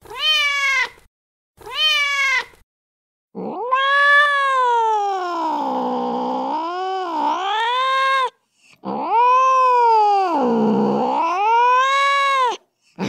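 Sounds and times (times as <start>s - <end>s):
cat yowling: 0.0s - 1.0s, 1.6s - 2.5s, 3.4s - 12.6s.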